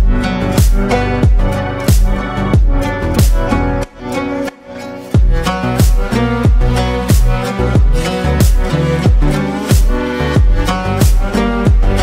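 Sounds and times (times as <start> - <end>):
music with a deep beat: 0.0 - 12.0.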